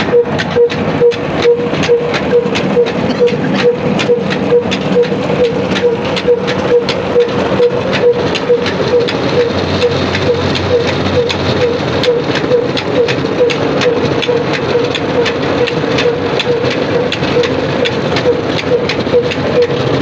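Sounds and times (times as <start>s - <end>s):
pulsing machine hum: 0.0s - 20.0s.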